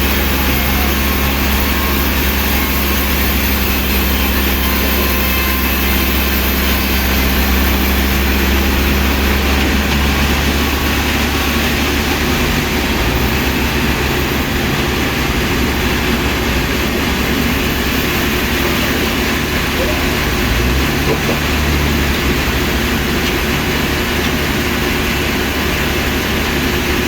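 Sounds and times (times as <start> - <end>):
heavy engine humming steadily: 0.0 - 27.0.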